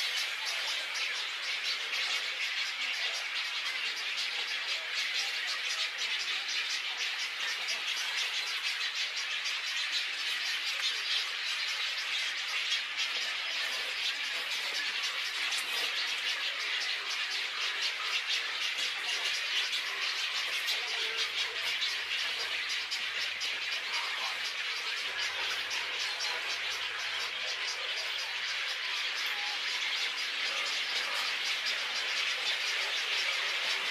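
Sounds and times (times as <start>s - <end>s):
colony of birds chirping: 0.0s - 33.9s.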